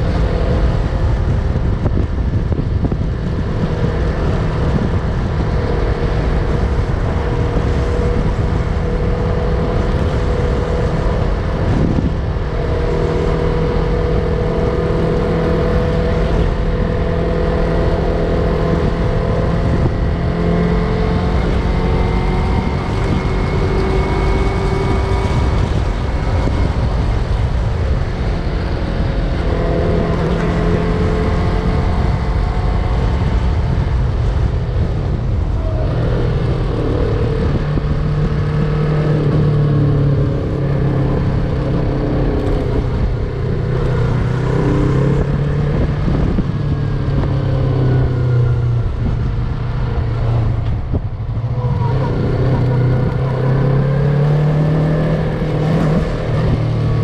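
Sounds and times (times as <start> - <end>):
low rushing noise: 0.0 - 57.0
motorcycle engine revving: 0.0 - 57.0.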